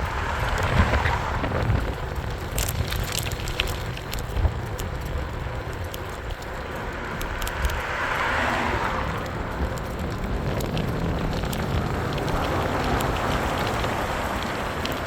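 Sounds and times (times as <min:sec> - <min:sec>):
small clicks and ticks: 0:00.0 - 0:15.0
tyre and road noise: 0:00.0 - 0:15.0
wind rumbling on microphone: 0:00.0 - 0:15.0.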